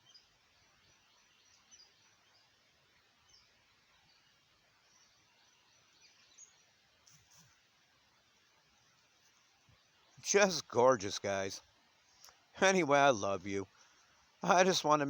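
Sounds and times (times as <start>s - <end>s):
faint bird chirps: 0.0s - 15.0s
outdoor hiss: 0.0s - 15.0s.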